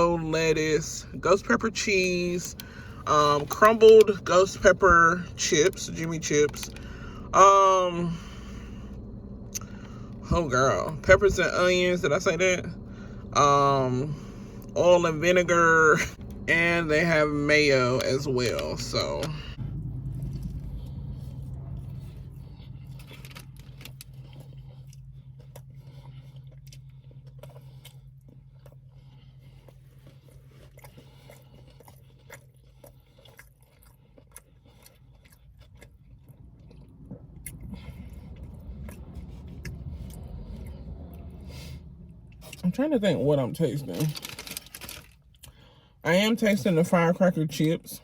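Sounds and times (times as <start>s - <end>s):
person chewing crunchy food: 0.0s - 42.8s
steady low hum: 0.0s - 48.0s.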